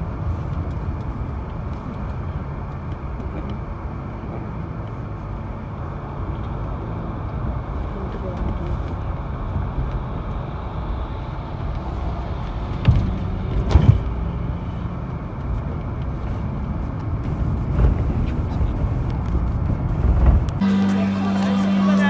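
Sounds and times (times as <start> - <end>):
vehicle rumble from inside cabin: 0.0 - 22.0.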